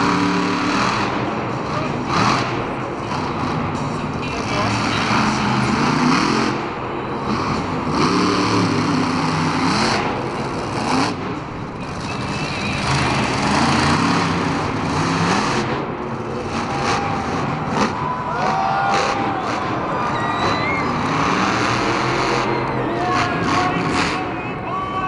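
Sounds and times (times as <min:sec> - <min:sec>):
monster truck engine revving: 0:00.0 - 0:24.6
arena crowd noise: 0:00.0 - 0:25.0.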